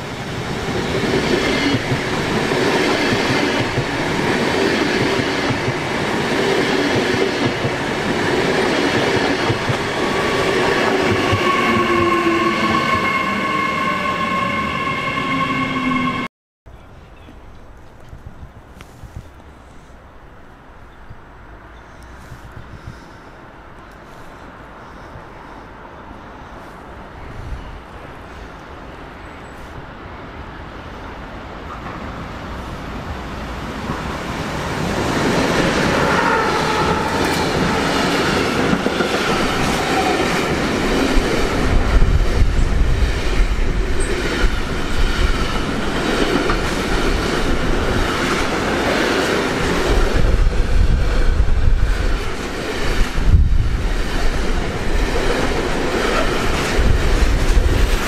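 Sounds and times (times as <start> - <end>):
freight train rumbling past: 0.0 - 16.3, 24.4 - 58.0.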